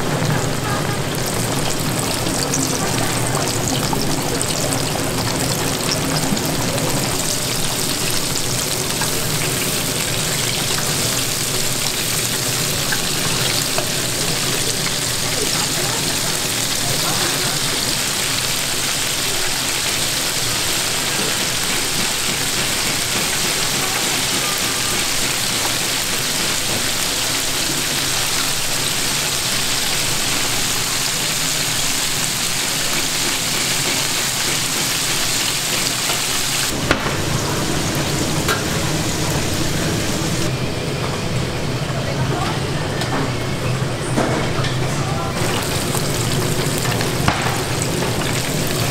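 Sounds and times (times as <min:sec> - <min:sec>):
meat deep-frying in hot oil: 0:00.0 - 0:40.5, 0:45.4 - 0:48.9.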